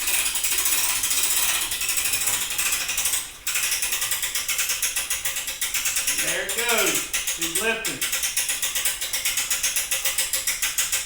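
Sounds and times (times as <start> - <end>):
winch ratchet clicking: 0.0 - 11.0.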